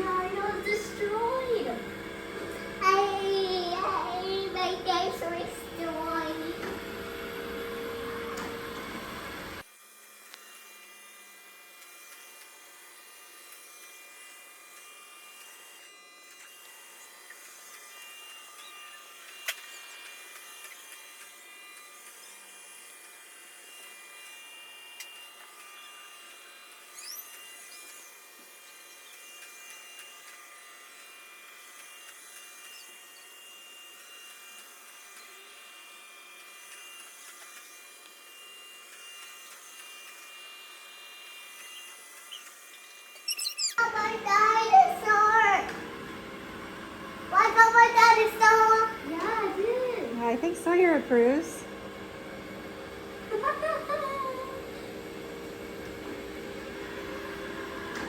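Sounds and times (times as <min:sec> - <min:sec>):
robot vacuum whine: 0:00.0 - 0:09.6, 0:13.4 - 0:35.6, 0:36.7 - 0:58.0.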